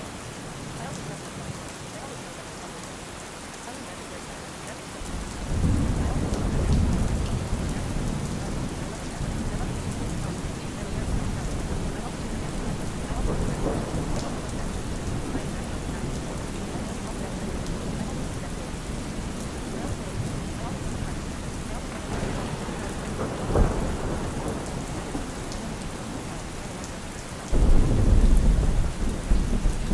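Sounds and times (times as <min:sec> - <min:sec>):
steady rain: 0:00.0 - 0:29.9
rolling thunder: 0:05.1 - 0:26.9, 0:27.5 - 0:29.9.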